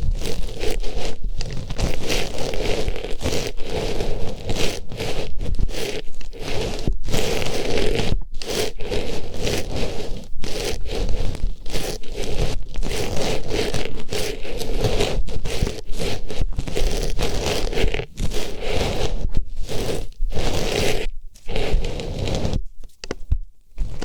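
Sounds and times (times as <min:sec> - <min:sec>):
close rustling and scraping in ear: 0:00.0 - 0:24.0.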